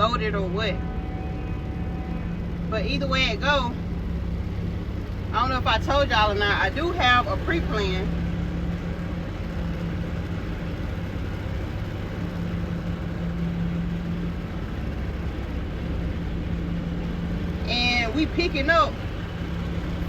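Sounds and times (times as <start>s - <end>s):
truck diesel engine idling: 0.0s - 20.0s.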